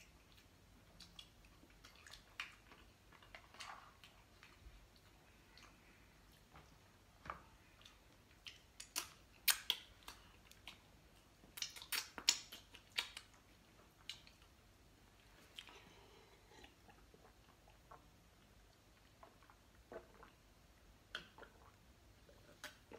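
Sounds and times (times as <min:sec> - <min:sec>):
chewing with clicks and smacks: 0:00.0 - 0:14.6, 0:15.2 - 0:20.4.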